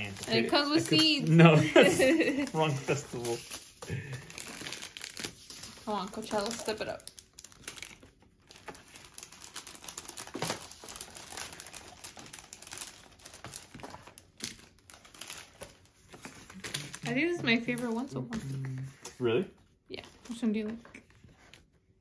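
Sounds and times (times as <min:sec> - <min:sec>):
plastic packaging crinkling: 0:00.0 - 0:19.1.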